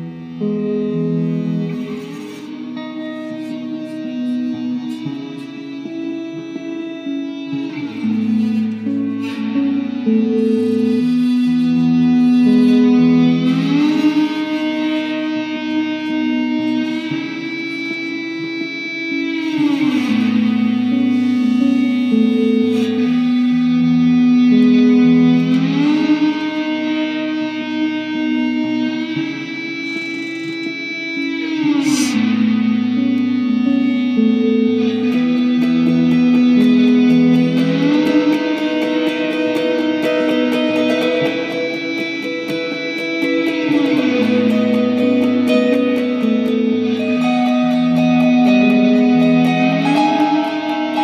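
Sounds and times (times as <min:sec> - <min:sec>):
electric guitar ambient swells: 0:00.0 - 0:51.0
slide guitar gliding note: 0:00.0 - 0:51.0.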